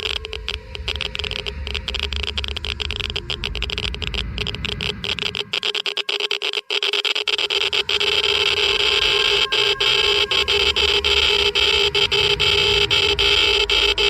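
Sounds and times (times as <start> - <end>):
geiger counter clicks: 0.0 - 14.0
steady tone: 0.0 - 14.0.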